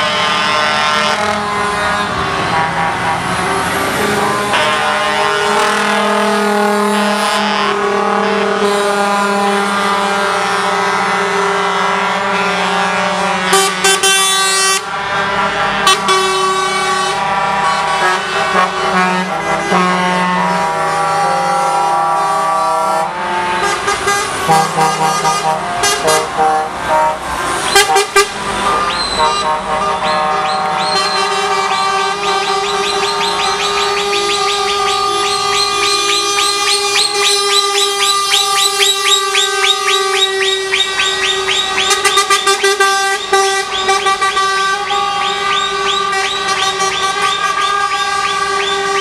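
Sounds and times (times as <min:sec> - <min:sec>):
truck air horns: 0:00.0 - 0:49.0
truck engines driving past: 0:00.0 - 0:49.0.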